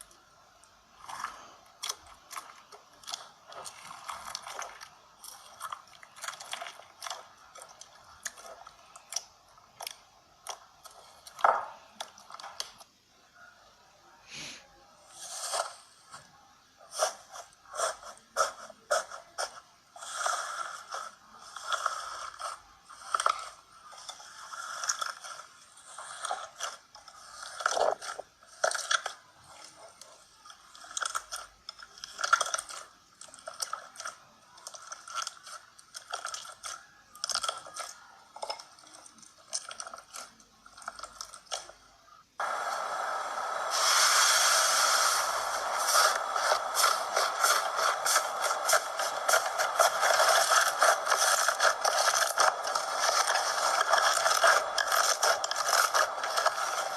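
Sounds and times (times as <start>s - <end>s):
slime crackling and crunching: 0.9s - 12.9s, 16.9s - 41.8s, 45.2s - 56.9s.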